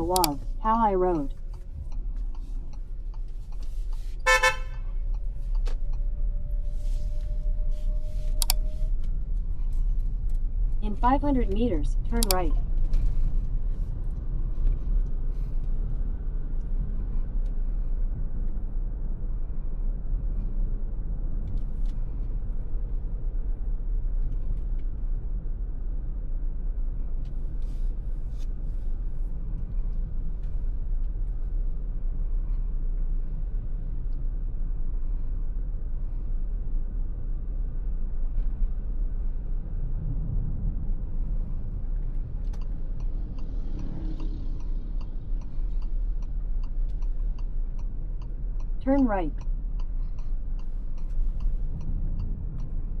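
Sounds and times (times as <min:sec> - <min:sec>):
road and tyre noise: 0:00.0 - 0:53.0.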